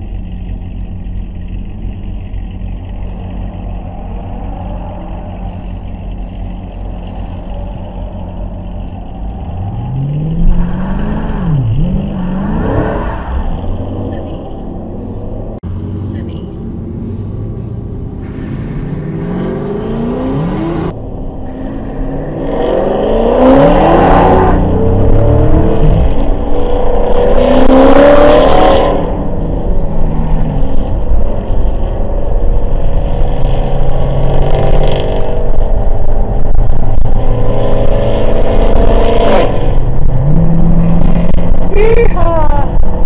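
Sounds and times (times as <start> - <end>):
car engine accelerating hard: 0.0 - 43.0.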